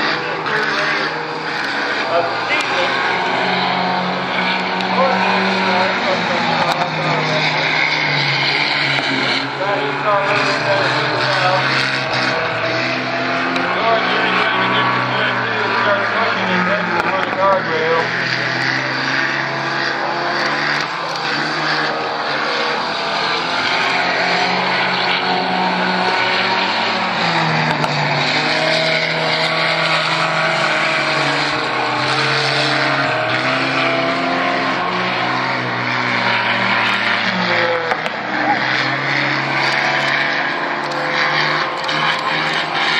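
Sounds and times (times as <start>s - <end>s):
race car engine running hard: 0.0s - 42.9s.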